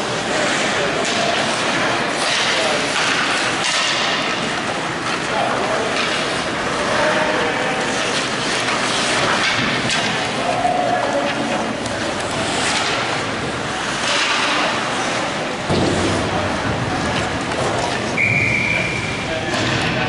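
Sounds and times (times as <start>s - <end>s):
hockey sticks and puck clacking: 0.0s - 20.0s
skates rushing on ice: 0.0s - 20.0s.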